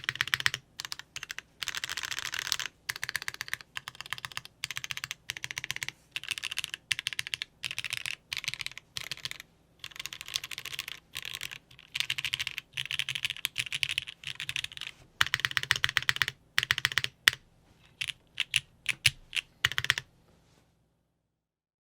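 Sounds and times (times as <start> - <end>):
typing on mechanical keyboard: 0.0 - 20.1.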